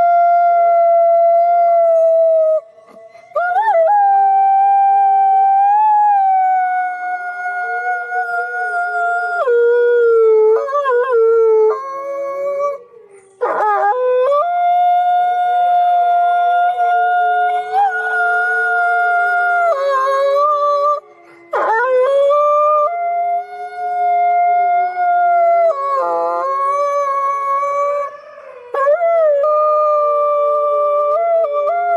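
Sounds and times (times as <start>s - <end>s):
wolves howling: 0.0s - 31.9s.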